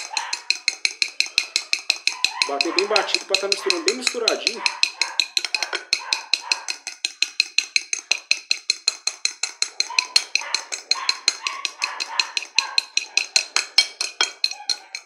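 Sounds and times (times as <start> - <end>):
whisk clicking against glass bowl: 0.0 - 15.0.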